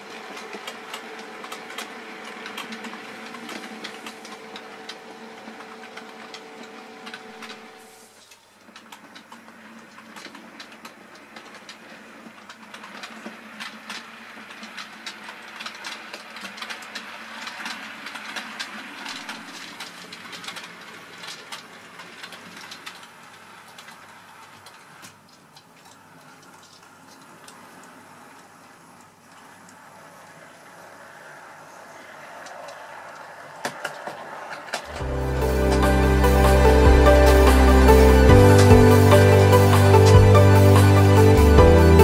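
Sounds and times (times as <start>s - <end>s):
model train wheels clicking: 0.0s - 35.1s.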